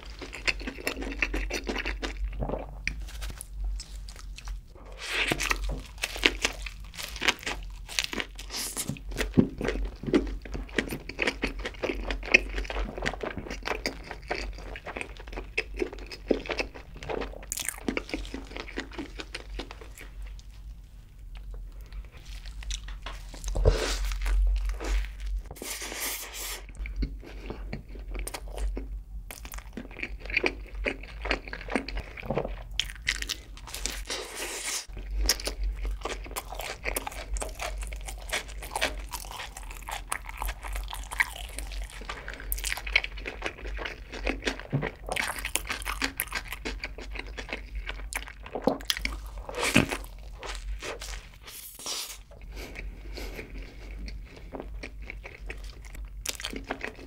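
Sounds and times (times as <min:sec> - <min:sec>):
person biting and chewing food: 0:00.0 - 0:20.5, 0:21.3 - 0:57.0.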